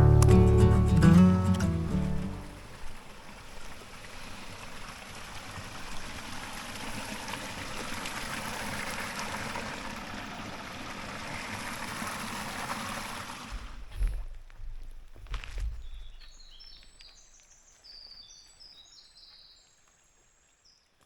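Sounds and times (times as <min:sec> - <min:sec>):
stream water running: 0:00.0 - 0:20.6.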